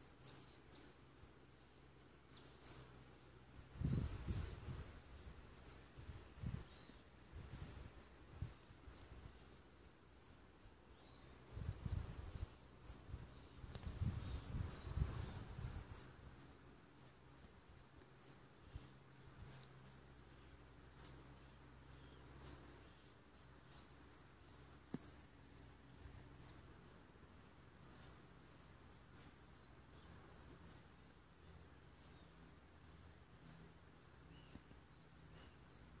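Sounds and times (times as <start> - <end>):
faint outdoor ambience: 0.0 - 36.0
small bird chirping: 0.0 - 36.0.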